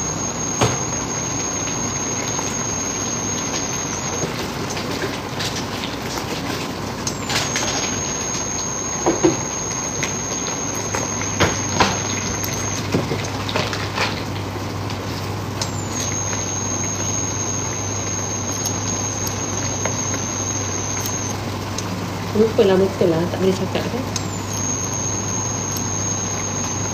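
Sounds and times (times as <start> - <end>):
food sizzling and bubbling: 0.0 - 26.9.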